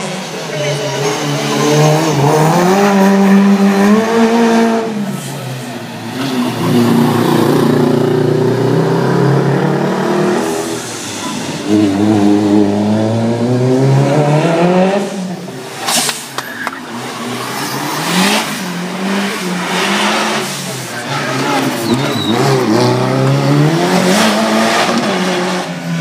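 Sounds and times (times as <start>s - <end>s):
engine revving: 0.0s - 5.4s, 6.1s - 16.2s, 16.9s - 26.0s
race car engines: 0.0s - 26.0s.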